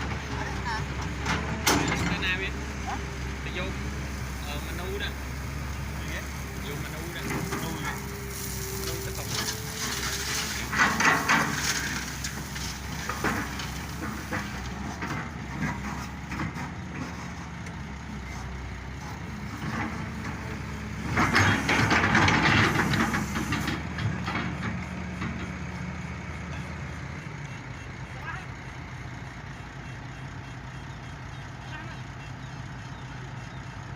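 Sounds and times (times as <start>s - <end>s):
excavator diesel engine running: 0.0s - 33.9s
harsh machinery noise: 0.0s - 33.9s.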